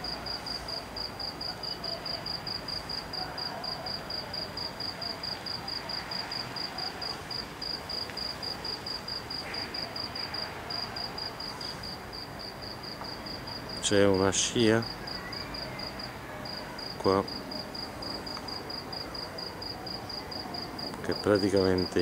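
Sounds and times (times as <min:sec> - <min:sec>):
cricket chirping: 0:00.0 - 0:22.0
steady background hiss: 0:00.0 - 0:22.0.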